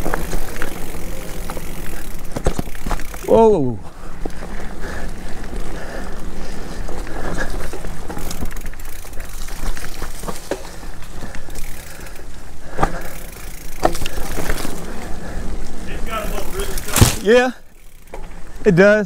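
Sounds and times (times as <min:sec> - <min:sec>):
bike tyres rumbling on dirt: 0:00.0 - 0:18.8
bike clicks and rattles: 0:00.0 - 0:19.0.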